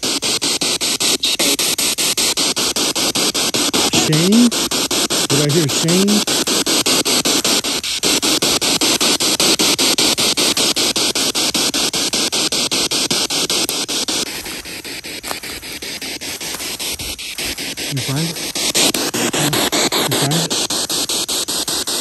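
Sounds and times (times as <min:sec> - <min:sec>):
radio static hiss chopping: 0:00.0 - 0:22.0.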